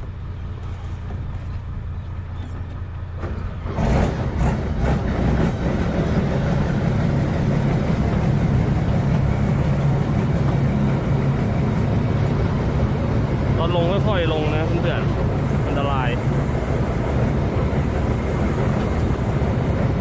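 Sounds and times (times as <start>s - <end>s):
large vehicle engine running: 0.0s - 20.0s.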